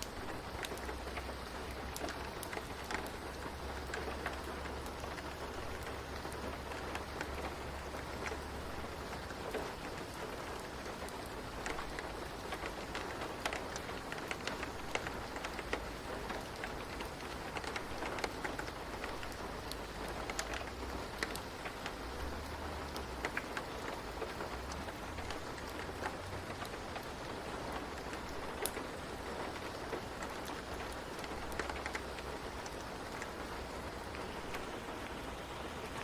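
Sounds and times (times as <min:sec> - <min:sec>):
rain drops tapping: 0:00.0 - 0:36.0.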